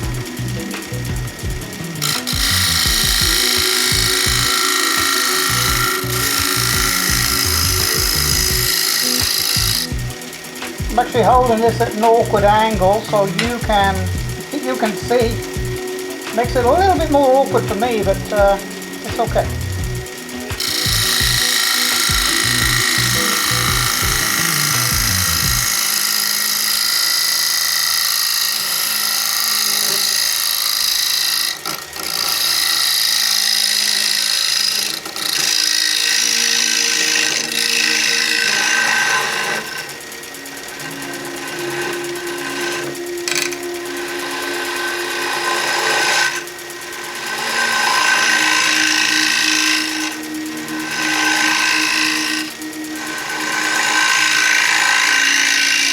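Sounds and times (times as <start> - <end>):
lathe motor whine: 0.0 - 55.9
scraper cutting wood on lathe: 0.0 - 55.9.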